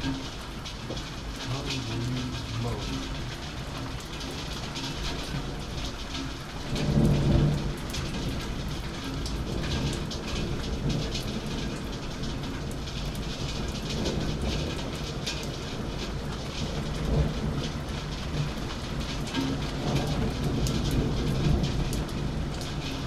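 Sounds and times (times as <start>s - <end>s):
steady rain: 0.0s - 23.0s
thunder rumbling: 0.0s - 23.0s.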